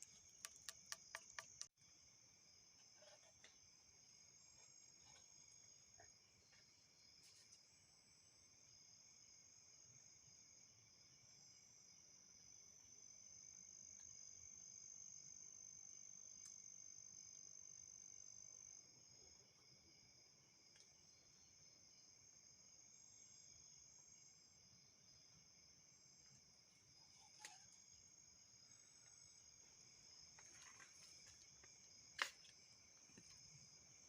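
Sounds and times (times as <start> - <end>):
crickets chirring: 0.0 - 34.0
insect trill: 0.0 - 34.0.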